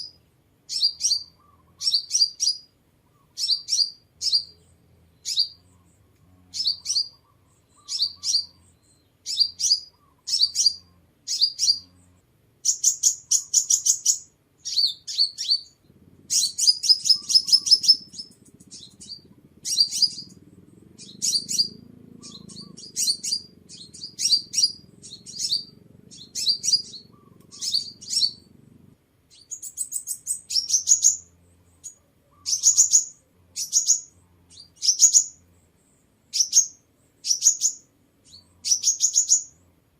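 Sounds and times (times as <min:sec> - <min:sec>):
bird chirping and chattering: 0:00.0 - 0:39.6.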